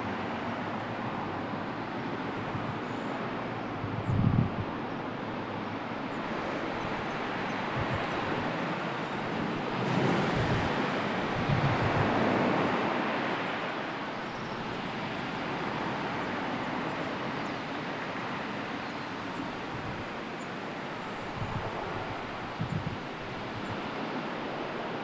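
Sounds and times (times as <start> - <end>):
waves washing: 0.0 - 25.0
wind: 0.0 - 25.0.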